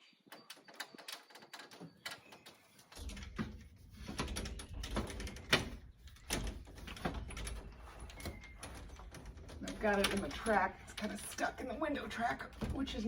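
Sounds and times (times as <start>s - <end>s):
window screen frame clicking and scraping: 0.4s - 13.0s.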